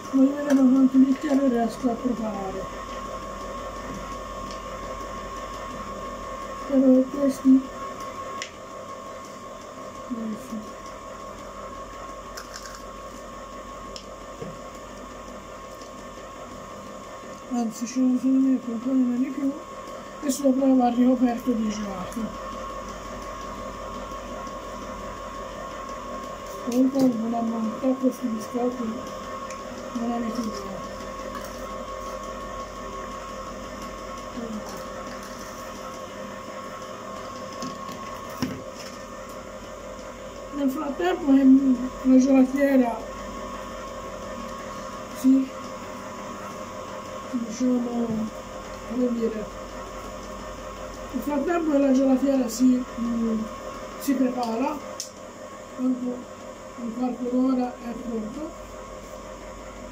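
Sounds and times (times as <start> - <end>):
ice cream maker motor hum: 0.0 - 59.9.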